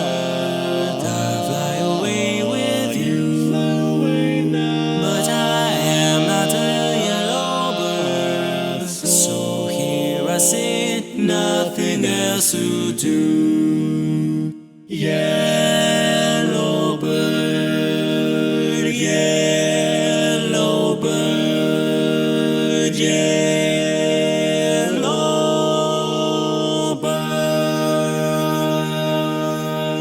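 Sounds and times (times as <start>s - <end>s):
close-harmony vocal chords: 0.0s - 30.0s.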